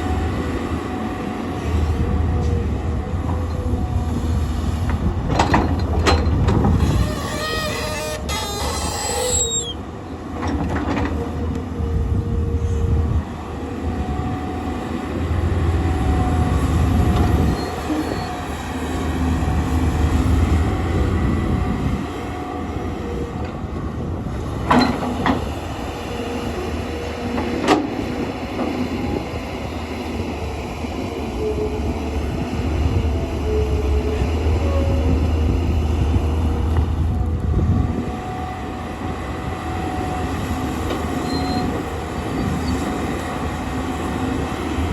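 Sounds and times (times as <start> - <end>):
excavator diesel engine rumbling: 0.0 - 44.9
hydraulic whine: 1.2 - 11.2, 15.4 - 44.4.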